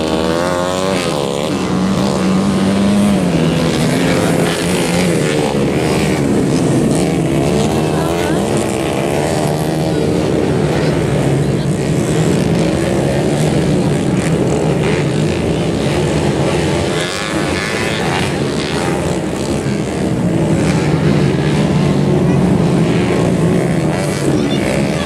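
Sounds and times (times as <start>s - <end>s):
dirt bike engines running: 0.0s - 25.0s.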